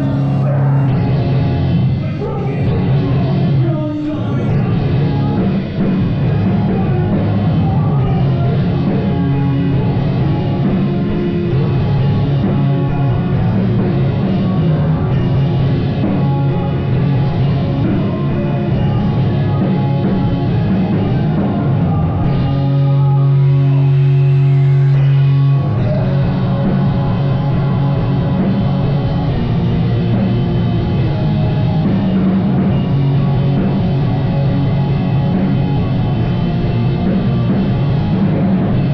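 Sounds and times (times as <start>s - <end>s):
drum kit: 0.0s - 38.9s
rock band playing: 0.0s - 38.9s.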